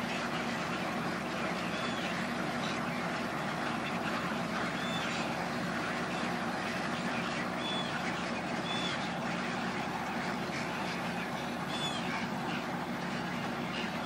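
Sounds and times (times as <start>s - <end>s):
egrets croaking and squawking: 0.0s - 14.0s
low steady hum: 0.0s - 14.0s.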